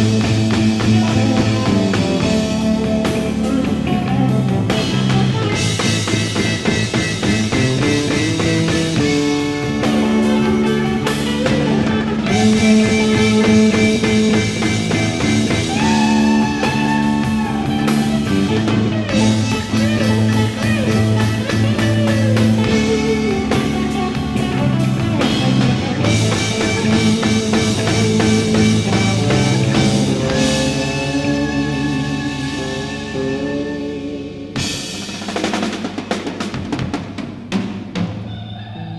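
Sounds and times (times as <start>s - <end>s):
instrumental rock music: 0.0s - 38.9s.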